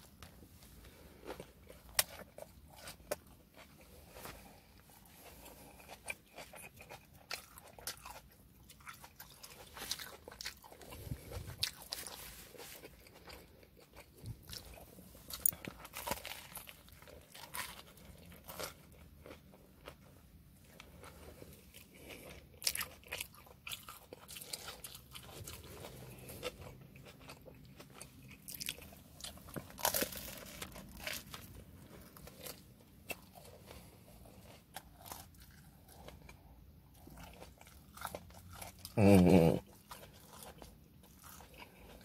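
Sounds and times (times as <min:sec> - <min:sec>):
chewing and crunching: 0:00.0 - 0:42.0.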